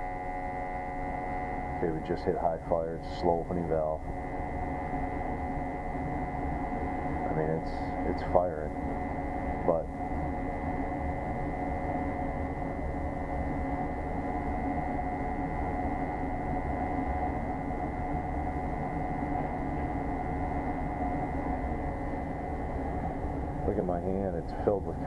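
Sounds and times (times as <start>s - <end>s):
gas burner humming: 0.0s - 25.0s.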